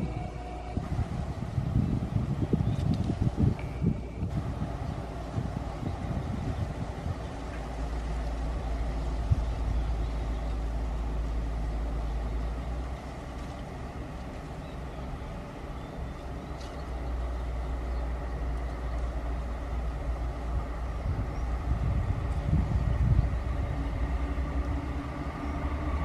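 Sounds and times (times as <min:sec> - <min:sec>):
freight train rumbling: 0:00.0 - 0:26.0.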